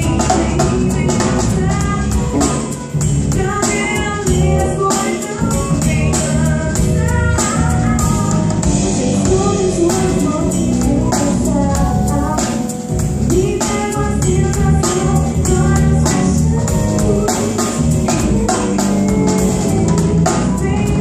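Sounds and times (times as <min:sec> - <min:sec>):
electric bass: 0:00.0 - 0:21.0
woman singing: 0:00.0 - 0:21.0.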